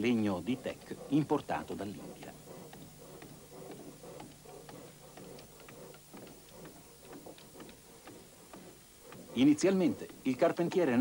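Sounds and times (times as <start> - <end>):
tapping on wooden boat hulls: 0.0 - 11.0.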